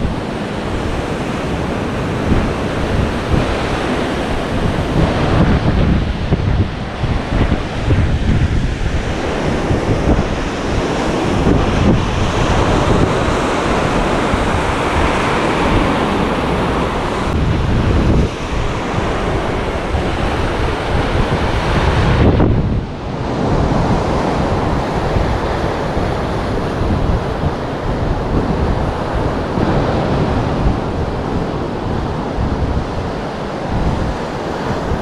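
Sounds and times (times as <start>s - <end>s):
sea waves washing: 0.0s - 35.0s
wind buffeting microphone: 0.0s - 35.0s.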